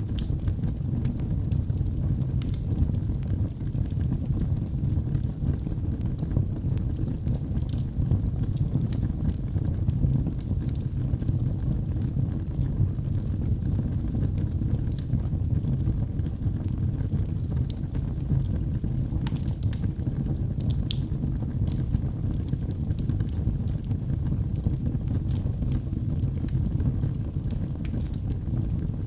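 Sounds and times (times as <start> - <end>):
fire crackling and popping: 0.0 - 29.0
low roar of flames: 0.0 - 29.0.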